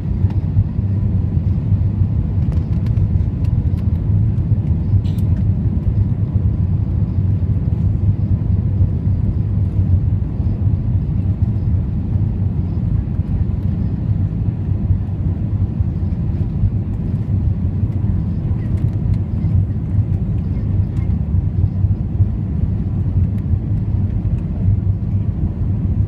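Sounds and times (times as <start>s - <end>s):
aircraft engines rumbling in cabin: 0.0s - 26.0s.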